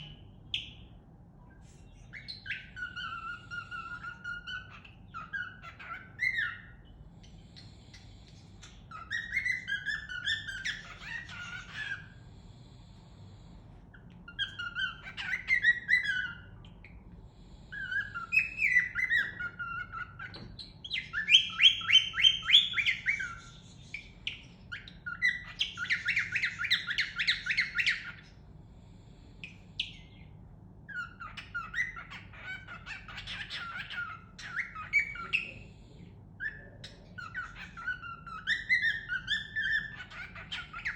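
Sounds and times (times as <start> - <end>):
cockatiel whistling and chirping: 0.0 - 0.9, 1.5 - 7.7, 8.6 - 12.2, 14.0 - 17.0, 17.7 - 28.4, 29.4 - 30.2, 30.8 - 35.7, 36.4 - 40.9.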